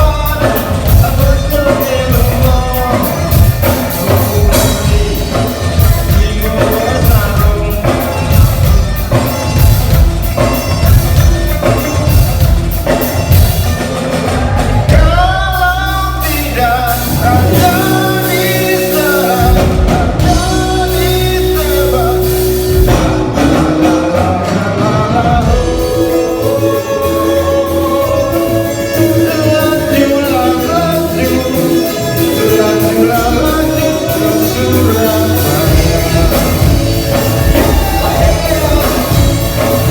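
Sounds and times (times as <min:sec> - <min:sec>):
busy drumming: 0:00.0 - 0:39.9
person singing: 0:00.0 - 0:39.9
rock band playing: 0:00.0 - 0:39.9.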